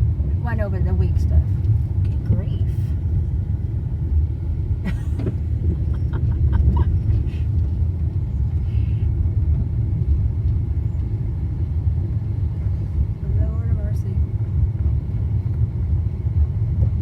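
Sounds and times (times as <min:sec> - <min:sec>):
road rumble inside car: 0:00.0 - 0:17.0.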